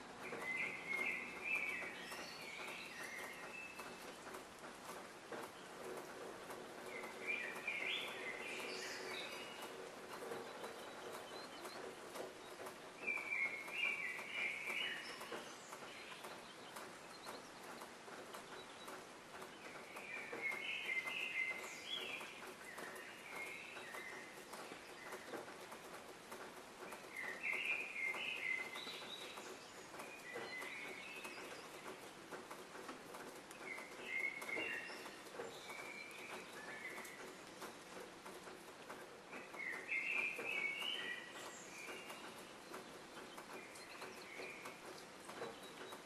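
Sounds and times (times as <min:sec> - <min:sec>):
faint crackling patter: 0:00.0 - 0:46.0
songbirds chirping: 0:00.0 - 0:46.0.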